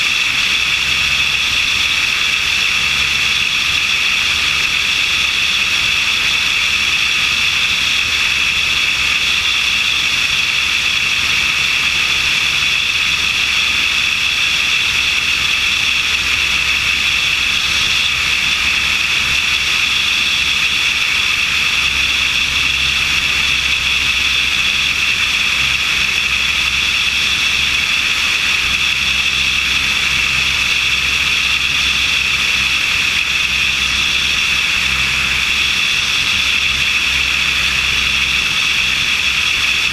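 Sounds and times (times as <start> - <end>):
propeller engine drone: 0.0 - 39.9.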